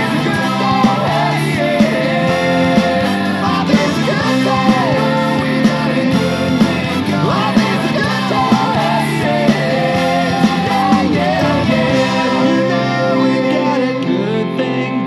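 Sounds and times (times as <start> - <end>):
ska-punk music through speaker: 0.0 - 15.0.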